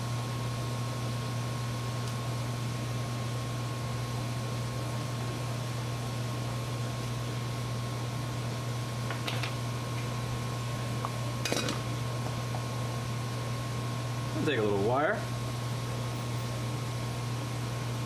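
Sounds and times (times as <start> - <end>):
small fan machine humming: 0.0 - 18.0.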